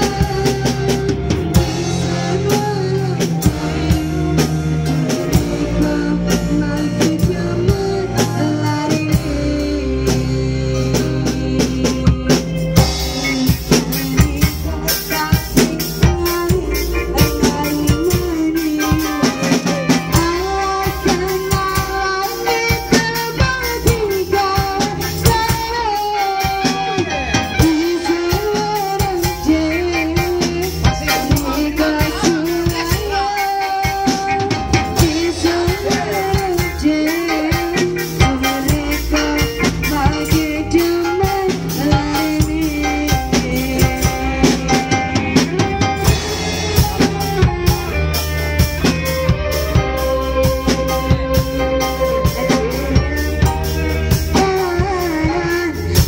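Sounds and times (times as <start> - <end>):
woman singing: 0.0 - 48.2, 49.3 - 56.0
live band playing: 0.0 - 56.0
steady drum beat: 0.0 - 56.0.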